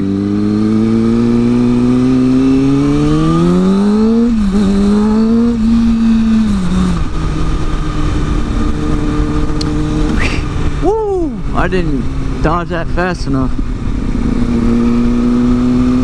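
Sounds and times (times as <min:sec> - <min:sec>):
motorcycle engine accelerating: 0:00.0 - 0:16.0
wind and road noise: 0:00.0 - 0:16.0.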